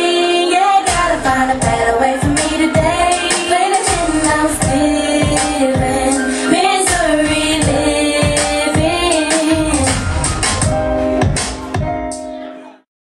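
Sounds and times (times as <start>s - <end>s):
sung vocal line: 0.0s - 11.0s
beat with bass kicks: 0.9s - 6.2s, 6.9s - 12.2s.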